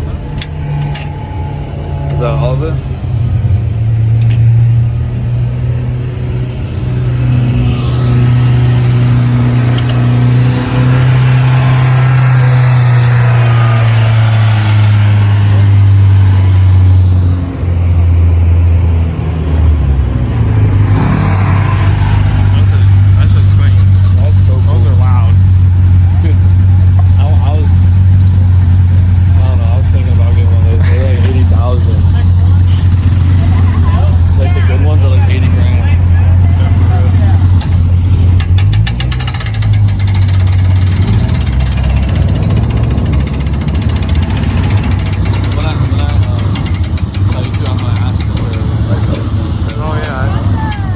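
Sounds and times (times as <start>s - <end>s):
vehicle engine revving: 0.0s - 50.9s.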